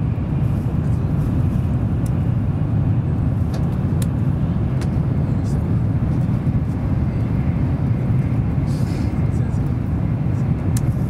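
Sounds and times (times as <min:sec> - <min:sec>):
train cabin rumble: 0:00.0 - 0:11.0.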